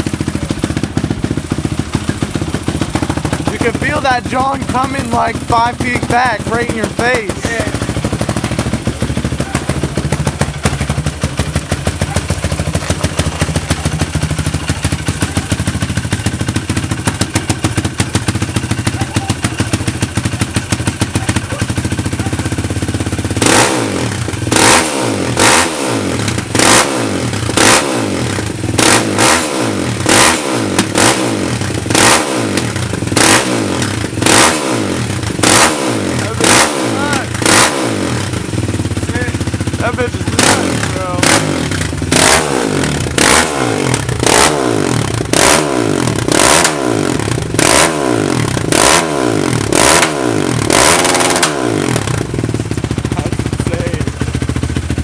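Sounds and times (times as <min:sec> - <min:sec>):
four-wheeler engine idling and revving: 0:00.0 - 0:55.0.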